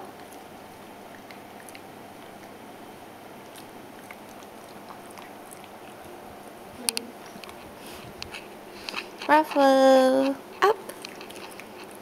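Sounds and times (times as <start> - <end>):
puppy chewing food: 0.0 - 12.0.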